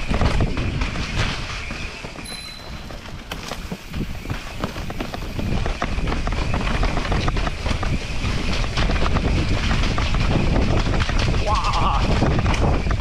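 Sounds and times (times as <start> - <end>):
bike clicking and rattling: 0.0 - 13.0
bike tyres on dirt: 0.0 - 13.0
wind buffeting microphone: 0.0 - 13.0.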